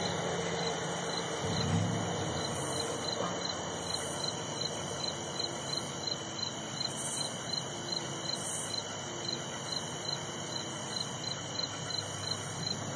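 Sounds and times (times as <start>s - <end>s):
high-pitched insect trill: 0.0s - 12.9s
insects chirping in pulses: 0.0s - 12.9s.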